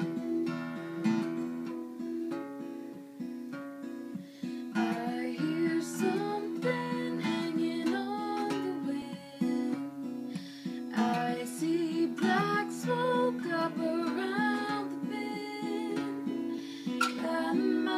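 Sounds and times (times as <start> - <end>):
acoustic guitar playing chords: 0.0 - 17.9.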